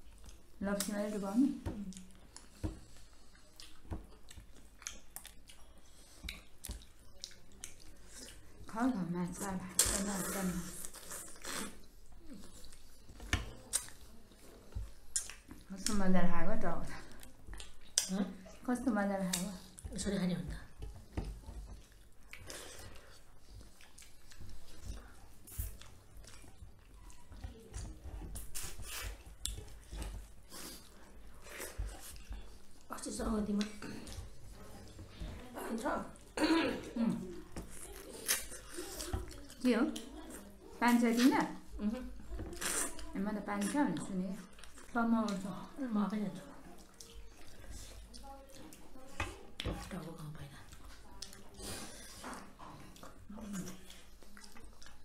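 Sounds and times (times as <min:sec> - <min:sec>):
soft chewing and mouth sounds: 0:00.0 - 0:55.0.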